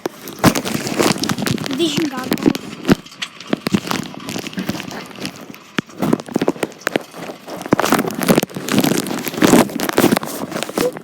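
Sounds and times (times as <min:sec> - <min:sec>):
heavy rain pattering on plastic: 0:00.0 - 0:11.0.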